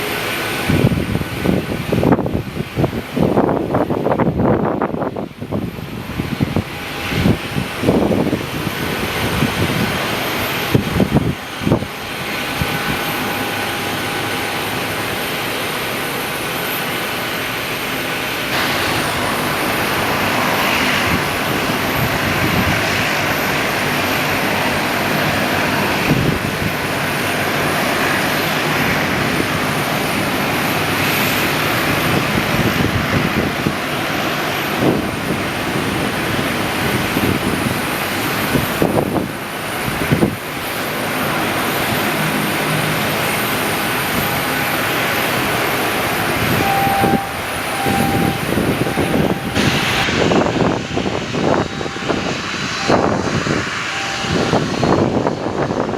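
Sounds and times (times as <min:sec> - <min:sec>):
airliner engines rushing: 0:00.0 - 0:55.9.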